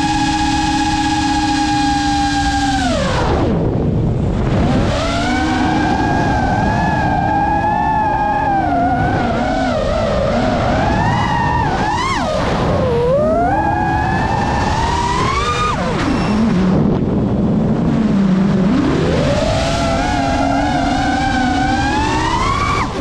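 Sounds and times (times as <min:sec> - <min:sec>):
drone motors whining: 0:00.0 - 0:23.0
low rushing noise: 0:00.0 - 0:23.0.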